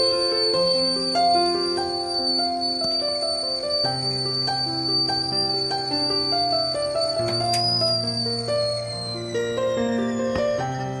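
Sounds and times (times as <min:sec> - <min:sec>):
kettle whistling: 0:00.0 - 0:11.0.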